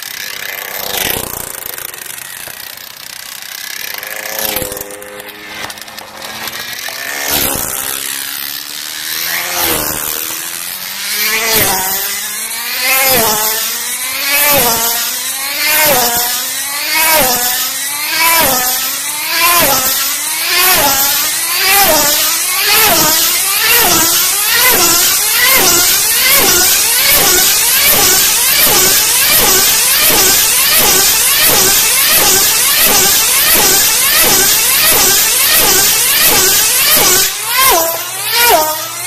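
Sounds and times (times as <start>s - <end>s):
rc race car engine whine passing: 0.0s - 39.0s.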